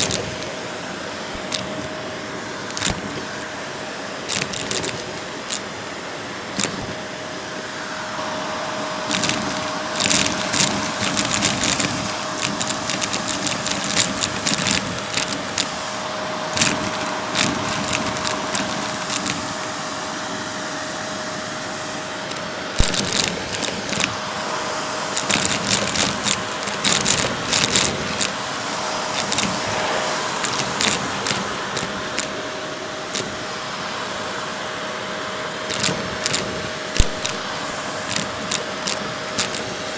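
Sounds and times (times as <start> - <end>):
cardboard pieces rattling in hose: 0.0 - 7.4, 8.2 - 34.5, 35.4 - 39.9
vacuum cleaner running: 0.0 - 39.9.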